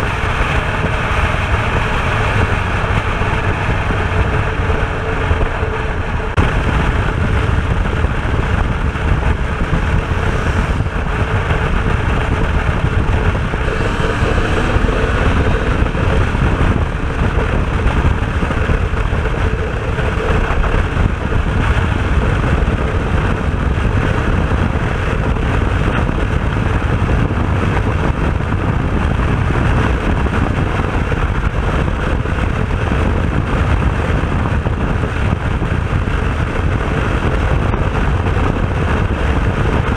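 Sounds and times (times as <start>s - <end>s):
two-stroke motorcycle engine: 0.0s - 39.9s
wind noise on microphone: 0.0s - 39.9s.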